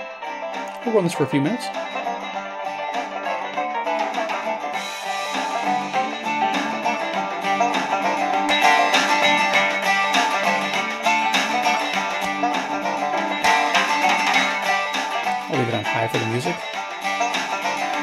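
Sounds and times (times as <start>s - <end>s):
guitar music on small radio: 0.0s - 18.0s.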